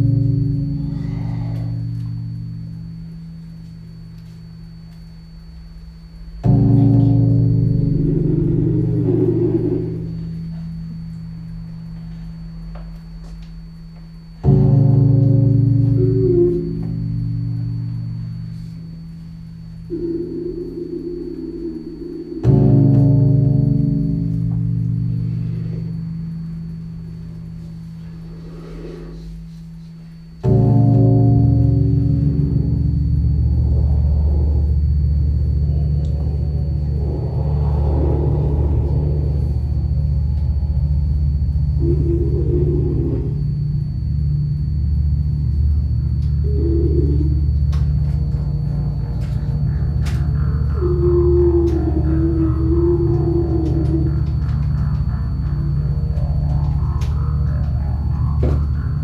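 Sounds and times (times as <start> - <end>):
gong-like tone: 0.0 - 59.0
low drone: 0.0 - 59.0.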